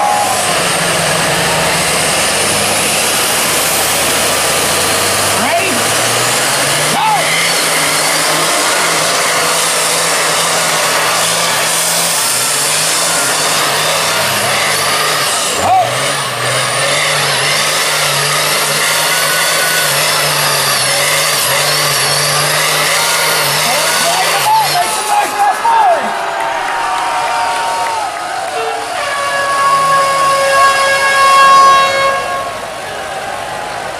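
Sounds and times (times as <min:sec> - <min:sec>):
monster truck engines at full throttle: 0:00.0 - 0:33.9
tyres spinning and burning rubber: 0:00.0 - 0:33.9.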